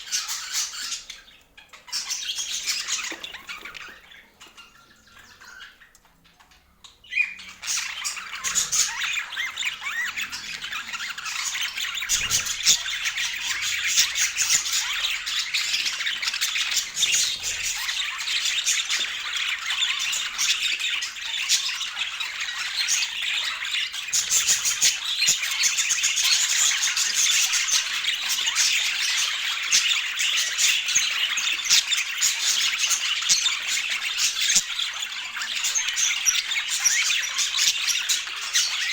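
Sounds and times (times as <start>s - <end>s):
flock of birds chattering: 0.0s - 38.9s.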